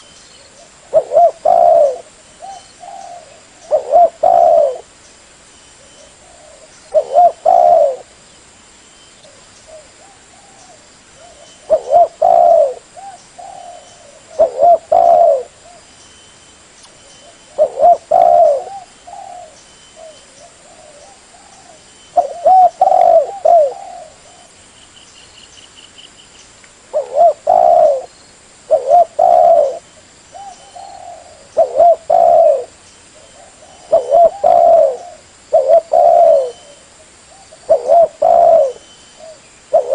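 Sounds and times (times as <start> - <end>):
dove cooing: 0.0 - 4.9, 5.9 - 8.2, 9.3 - 15.9, 17.1 - 24.6, 26.9 - 28.1, 28.7 - 39.9.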